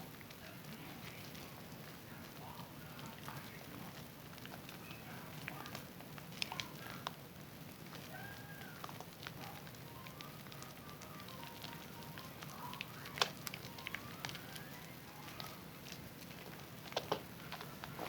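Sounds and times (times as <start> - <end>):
soap lather crackling: 0.2 - 18.0.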